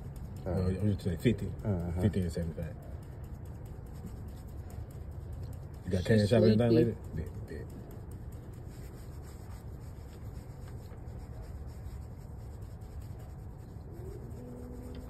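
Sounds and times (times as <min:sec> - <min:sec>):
gloved fingers rubbing fur: 0:00.0 - 0:15.0.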